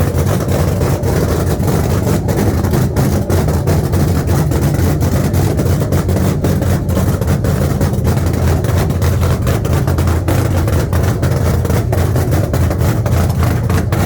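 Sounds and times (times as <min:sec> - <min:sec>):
loud car engine running: 0:00.0 - 0:14.0.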